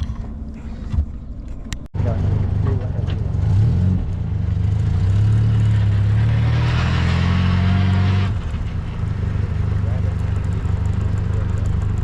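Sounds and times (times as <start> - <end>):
car engine pulling: 0.0 - 12.0.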